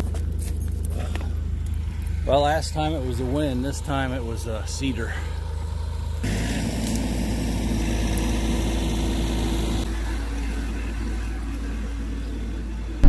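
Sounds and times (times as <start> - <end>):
mini excavator diesel engine running: 0.0 - 13.0.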